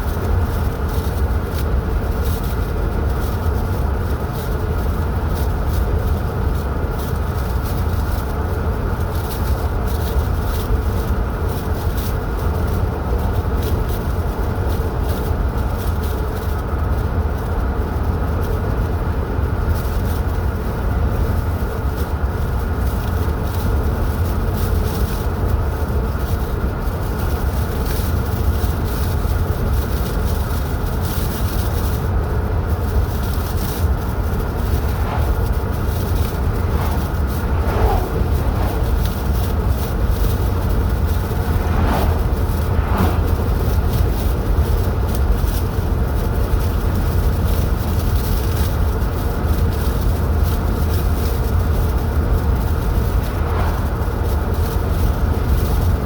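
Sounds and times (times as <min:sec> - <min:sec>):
car driving with road noise: 0:00.0 - 0:56.0.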